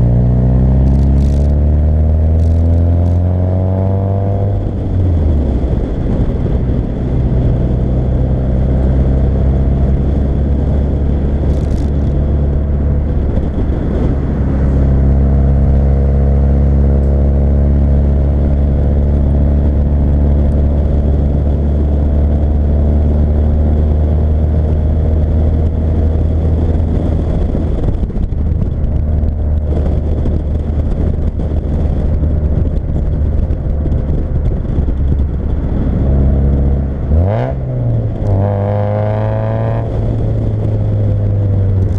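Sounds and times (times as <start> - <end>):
car engine at steady revs: 0.0 - 41.9.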